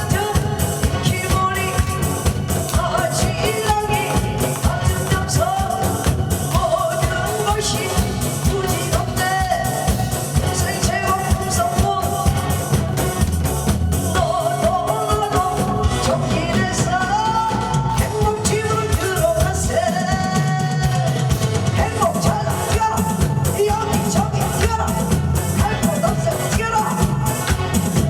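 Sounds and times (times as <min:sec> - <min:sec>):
amplified backing music: 0:00.0 - 0:28.0
person singing with vibrato: 0:00.0 - 0:28.0
steady drum beat: 0:00.0 - 0:28.0.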